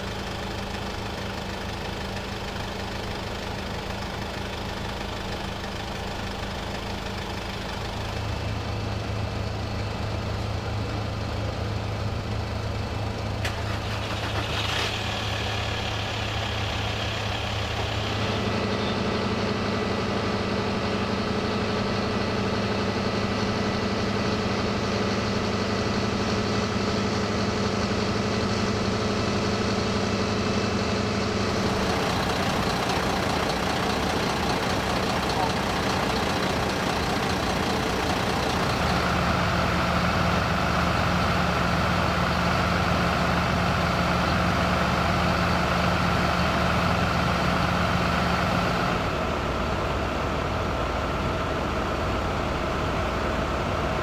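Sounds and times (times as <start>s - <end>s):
engines idling: 0.0s - 54.0s.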